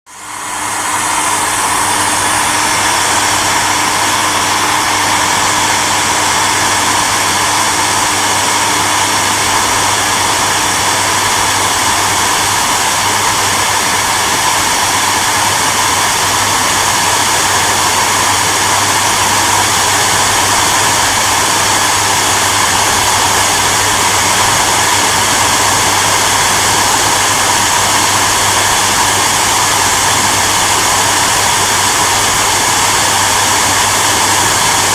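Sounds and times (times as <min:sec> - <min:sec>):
hair dryer running: 0:00.1 - 0:34.9.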